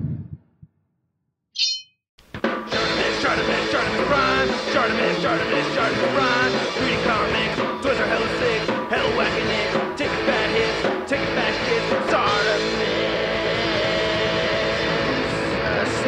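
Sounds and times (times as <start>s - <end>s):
rock song with singer: 2.6s - 16.0s.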